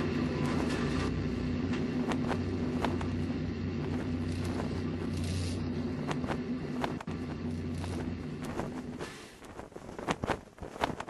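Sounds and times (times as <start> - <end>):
low rumble: 0.0 - 9.9
droning hum: 0.0 - 11.0.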